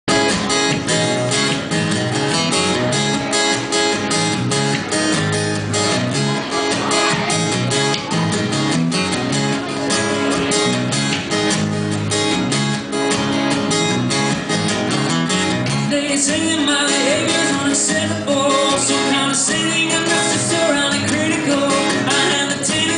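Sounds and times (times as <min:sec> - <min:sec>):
bass guitar line: 0:00.0 - 0:22.9
acoustic guitars strumming: 0:00.1 - 0:22.9.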